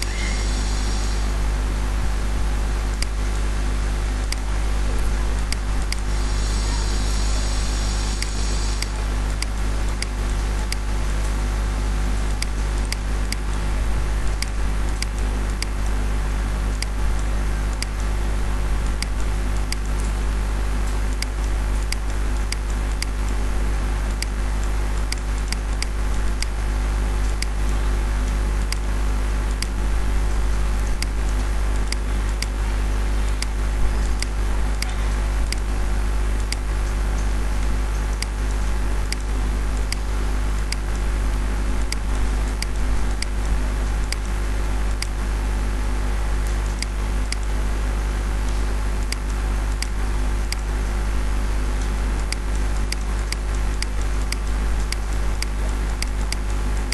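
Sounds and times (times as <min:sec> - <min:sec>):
low electrical hum and hiss: 0:00.0 - 0:56.9.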